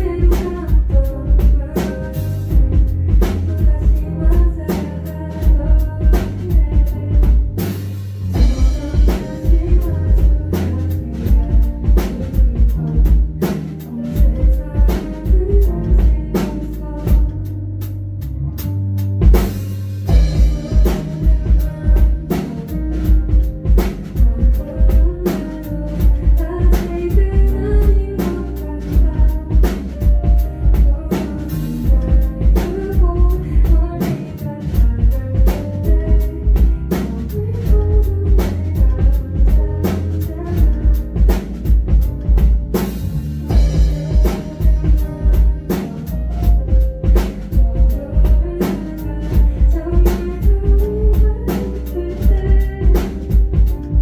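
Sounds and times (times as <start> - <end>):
woman singing: 0.0 - 18.0, 20.0 - 54.0
drum kit beat: 0.0 - 54.0
live band playing: 0.0 - 54.0.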